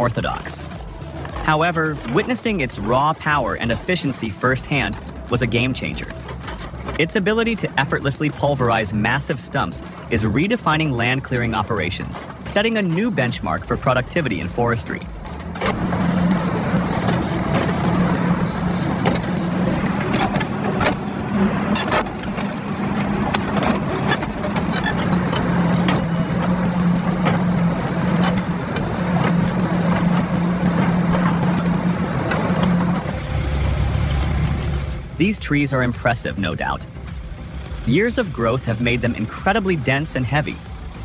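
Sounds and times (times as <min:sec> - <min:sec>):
excavator engine under load: 0:00.0 - 0:41.0.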